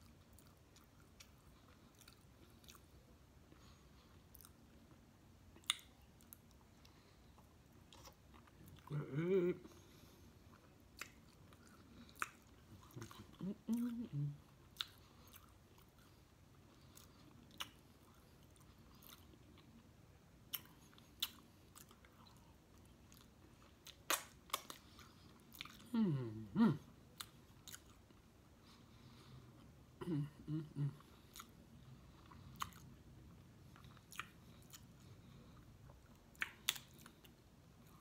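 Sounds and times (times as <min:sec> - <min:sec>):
person chewing: 0:00.0 - 0:29.8, 0:30.6 - 0:38.0.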